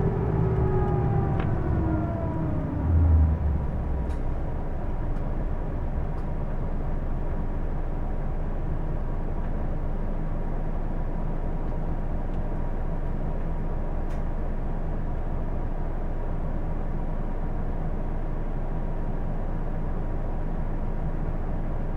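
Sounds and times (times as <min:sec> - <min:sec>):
bus engine and drive noise: 0:00.0 - 0:21.9.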